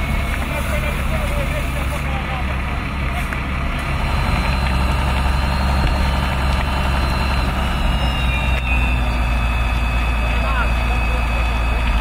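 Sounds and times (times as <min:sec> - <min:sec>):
fire truck engine idling: 0:00.0 - 0:12.0.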